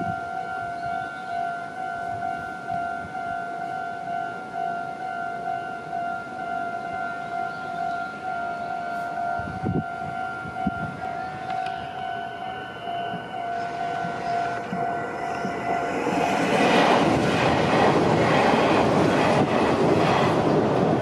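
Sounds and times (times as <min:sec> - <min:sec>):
level crossing warning bell ringing: 0:00.0 - 0:18.3
electric train passing: 0:00.0 - 0:21.0.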